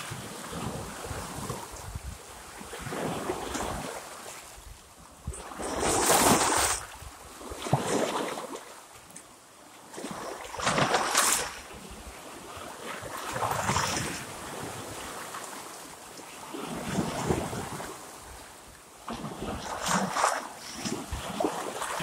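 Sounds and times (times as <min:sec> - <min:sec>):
waves splashing against rocks: 0:00.0 - 0:22.0.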